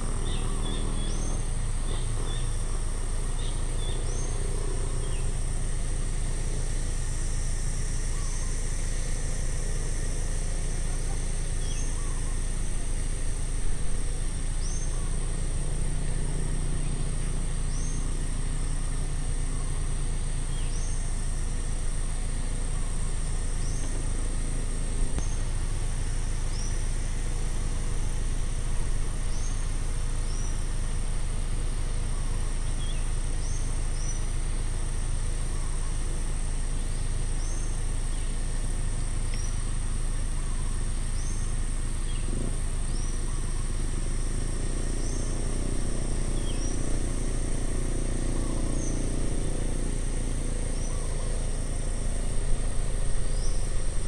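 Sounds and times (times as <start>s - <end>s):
high insect buzz: 0.0s - 54.0s.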